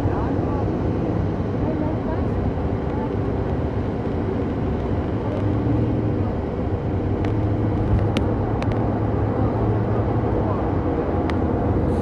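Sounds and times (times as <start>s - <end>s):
vehicle engine hum and road rumble: 0.0s - 12.0s.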